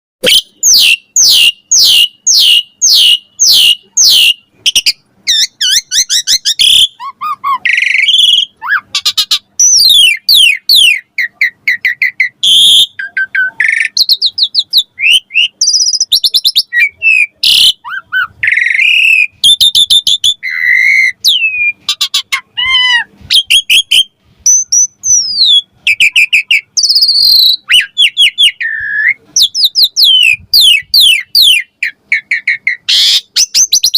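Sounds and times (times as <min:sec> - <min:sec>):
starling singing: 0:00.2 - 0:33.9.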